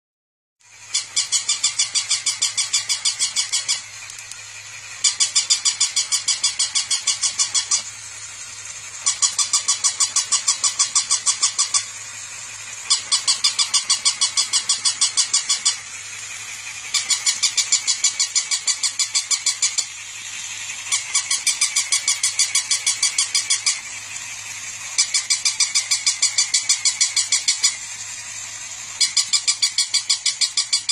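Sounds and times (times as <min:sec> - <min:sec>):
toy motor whirring: 0:00.6 - 0:30.9
toy dog yapping: 0:00.7 - 0:08.0, 0:08.7 - 0:28.0, 0:28.8 - 0:30.9.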